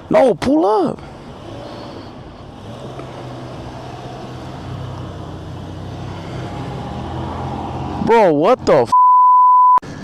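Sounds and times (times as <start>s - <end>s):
street traffic: 0.0s - 9.0s, 9.8s - 10.0s.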